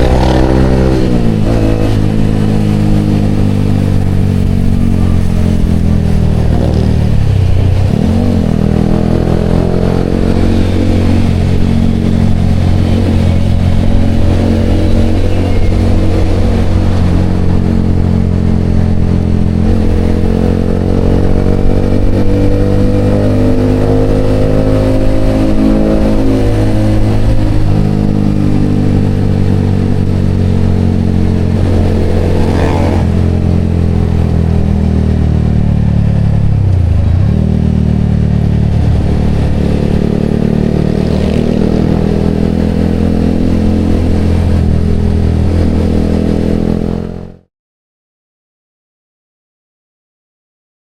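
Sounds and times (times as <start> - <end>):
motorcycle engine running: 0.0 - 47.4.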